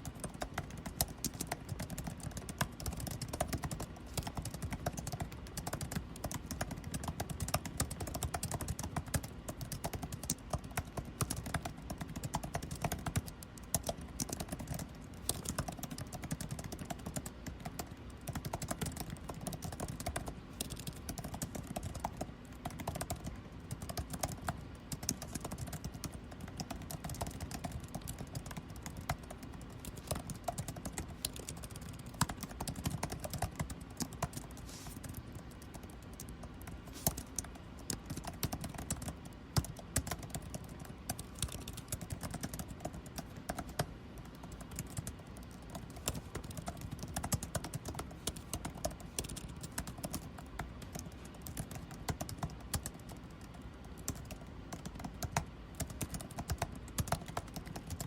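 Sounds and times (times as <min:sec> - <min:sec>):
air conditioning hum: 0:00.0 - 0:58.0
typing on computer keyboard: 0:00.0 - 0:58.0.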